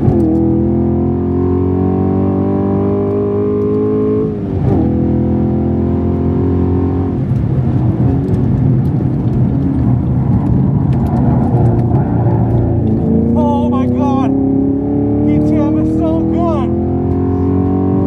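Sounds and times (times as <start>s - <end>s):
car engine at speed: 0.0s - 18.0s.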